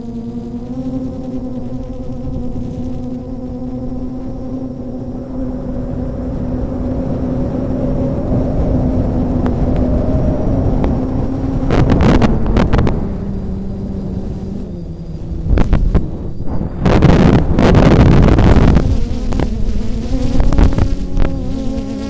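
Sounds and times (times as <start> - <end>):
quadcopter motors humming: 0.0 - 22.0
wind rushing over microphone: 0.6 - 22.0.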